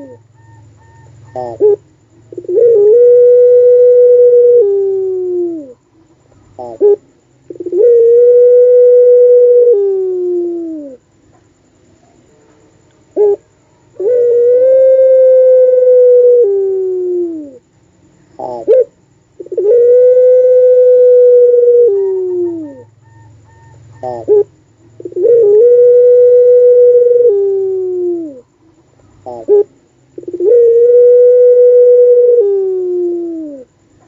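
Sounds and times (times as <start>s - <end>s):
dove cooing: 0.0s - 11.0s, 13.1s - 17.6s, 18.4s - 34.0s.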